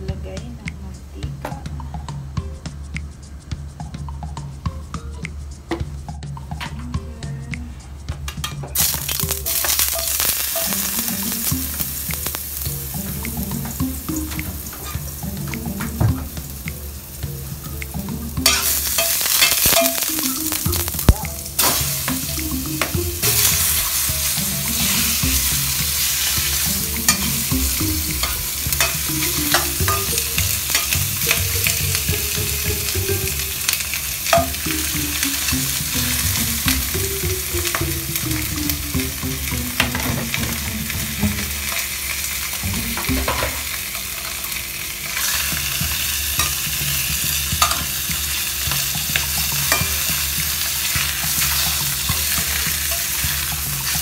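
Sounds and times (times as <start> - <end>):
fish sizzling in a wok: 8.8 - 54.0.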